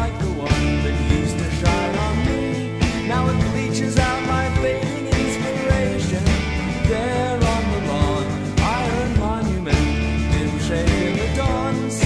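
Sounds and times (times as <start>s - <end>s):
indie rock band music: 0.0s - 12.0s.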